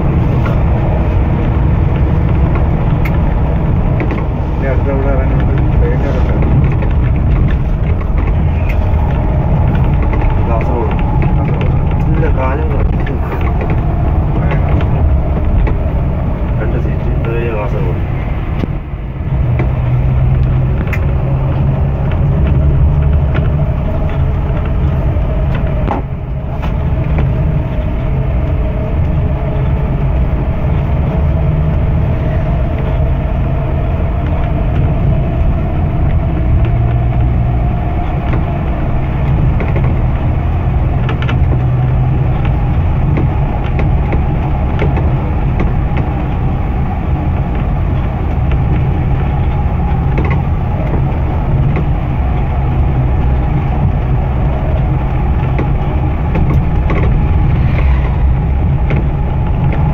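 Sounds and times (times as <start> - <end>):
diesel engine low drone: 0.0 - 59.9
faint whine: 0.0 - 59.9
road and tyre noise: 0.0 - 59.9
sharp rattles: 0.0 - 59.9.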